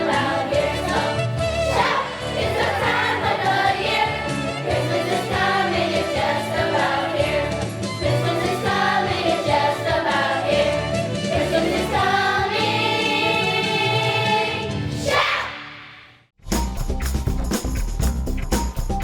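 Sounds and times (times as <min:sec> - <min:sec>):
musical accompaniment: 0:00.0 - 0:15.7, 0:16.4 - 0:19.0
school choir singing: 0:00.0 - 0:16.1.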